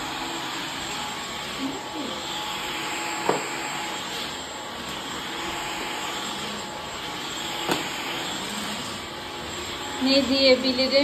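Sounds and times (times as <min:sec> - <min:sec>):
cordless vacuum running: 0:00.0 - 0:11.0.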